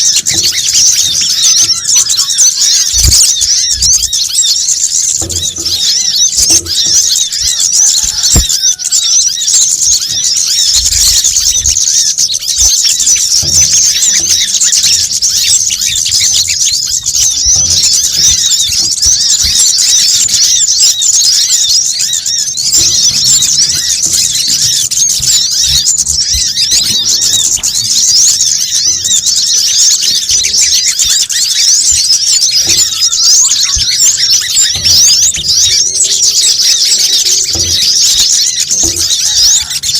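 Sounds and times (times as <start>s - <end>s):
small birds chittering: 0.0s - 39.9s.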